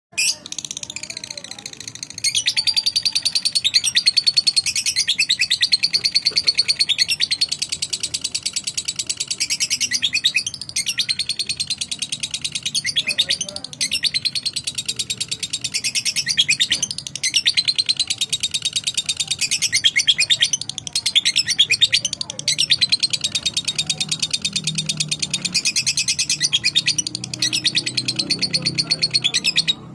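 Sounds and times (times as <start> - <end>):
lovebird chattering: 0.2 - 29.9.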